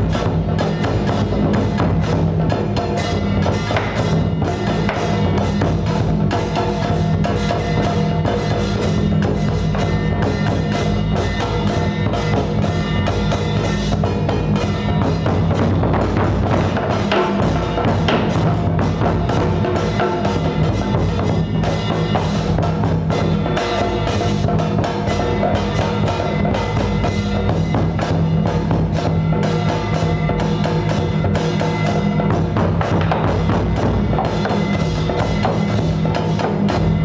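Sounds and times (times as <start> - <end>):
drums: 0.0 - 37.0
wood-block percussion: 0.0 - 37.0.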